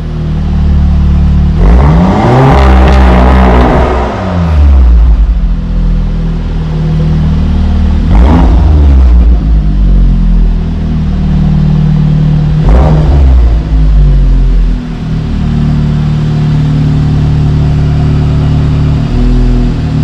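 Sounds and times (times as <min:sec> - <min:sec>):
car engine droning loudly: 0:00.0 - 0:20.0.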